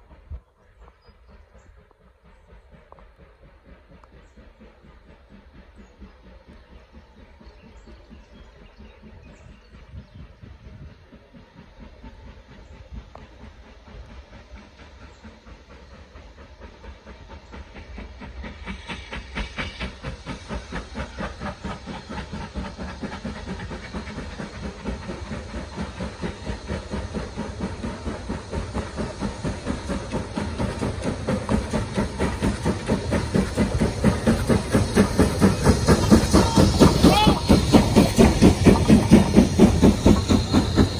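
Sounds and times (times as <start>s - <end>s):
steam locomotive exhaust beating: 0.0s - 40.9s.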